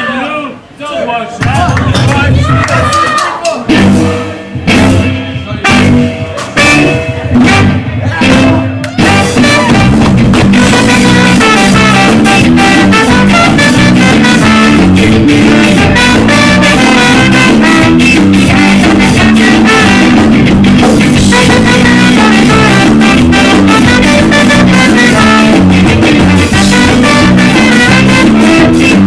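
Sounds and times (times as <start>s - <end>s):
ska band playing live: 1.4s - 29.0s.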